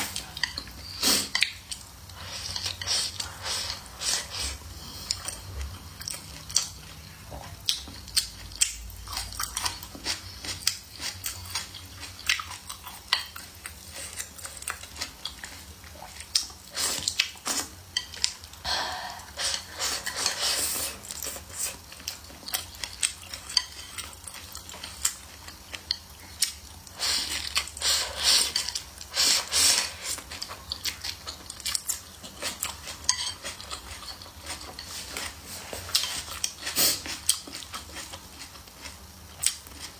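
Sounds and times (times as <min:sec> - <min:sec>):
chewing: 0:00.0 - 0:18.6, 0:19.2 - 0:39.9.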